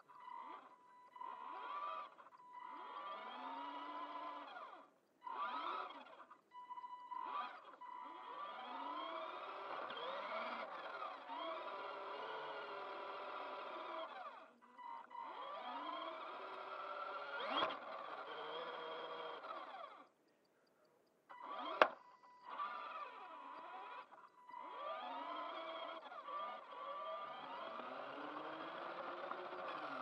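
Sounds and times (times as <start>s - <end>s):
toy car motor whining: 0.0s - 30.0s.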